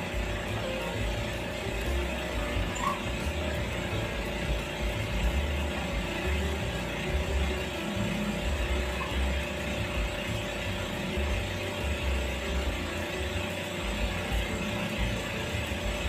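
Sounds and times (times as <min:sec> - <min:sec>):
dental equipment whirring: 0:00.0 - 0:16.0.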